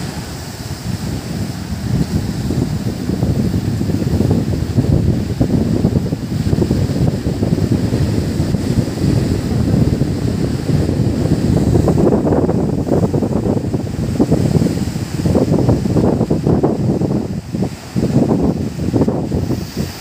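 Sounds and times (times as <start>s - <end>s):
sea surf: 0.0s - 20.0s
wind buffeting microphone: 0.0s - 20.0s.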